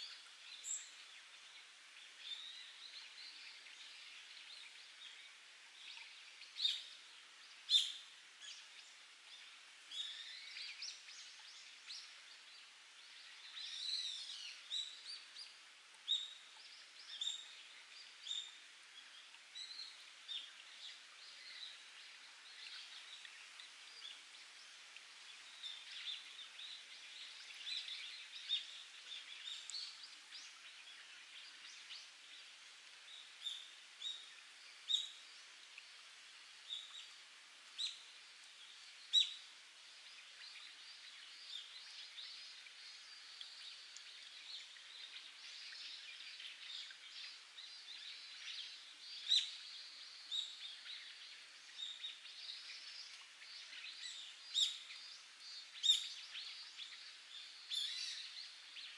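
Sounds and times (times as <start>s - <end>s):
water trickling from rocks: 0.0s - 58.9s.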